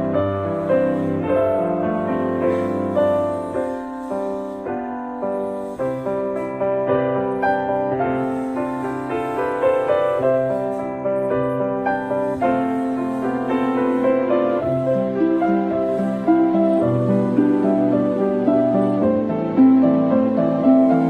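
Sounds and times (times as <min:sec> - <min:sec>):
background piano music: 0:00.0 - 0:21.0.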